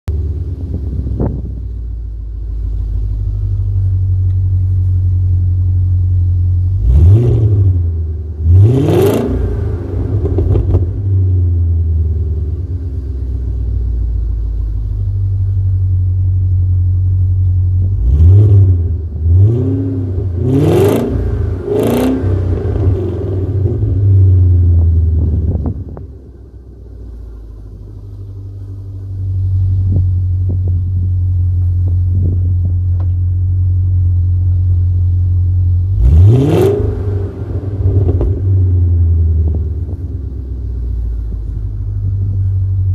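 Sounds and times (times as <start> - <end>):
car exhaust idling and revving: 0.0 - 42.9.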